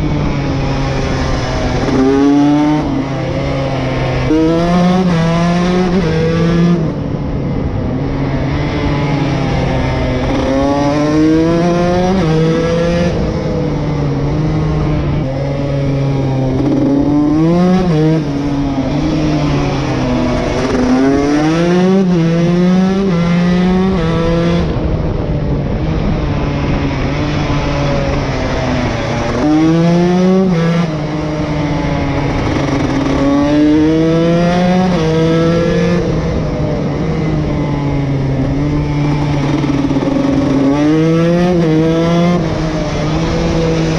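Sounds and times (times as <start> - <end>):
two-stroke motorcycle engine revving: 0.0 - 7.1, 8.2 - 25.0, 25.8 - 43.9
wind and tyre noise: 0.0 - 43.9.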